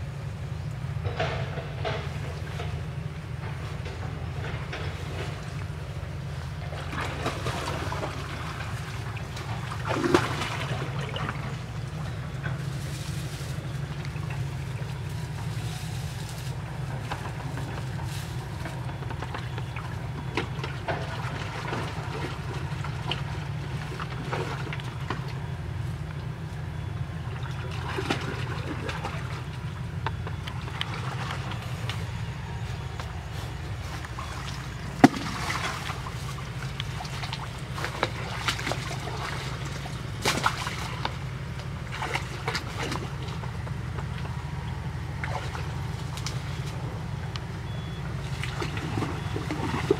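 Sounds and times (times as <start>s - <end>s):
steady low rumble: 0.0s - 49.9s
water sloshing and splashing: 0.0s - 49.9s.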